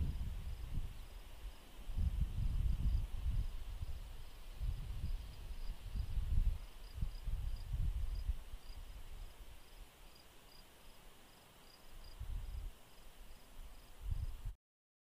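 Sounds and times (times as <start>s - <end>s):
crickets chirping: 0.0s - 14.3s.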